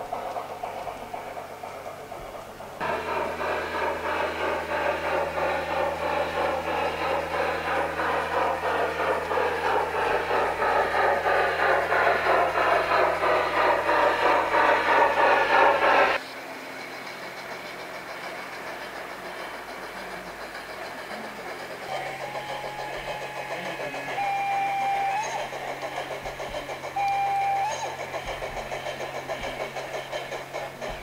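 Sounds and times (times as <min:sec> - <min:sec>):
model train clatter: 0:00.0 - 0:31.0.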